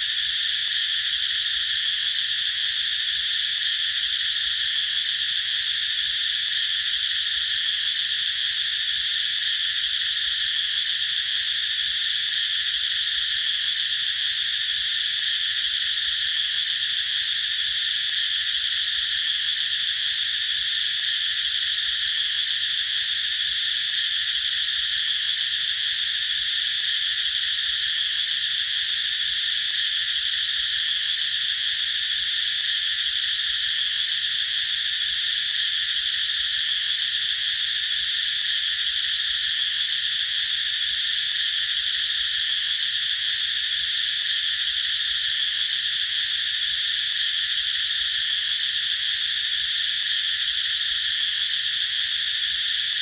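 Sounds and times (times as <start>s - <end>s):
cicadas singing: 0.0s - 53.0s.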